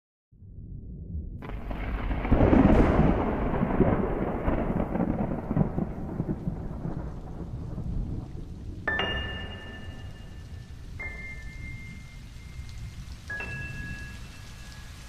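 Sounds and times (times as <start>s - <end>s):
rolling thunder: 0.7s - 13.1s
rain-like hiss: 1.4s - 15.0s.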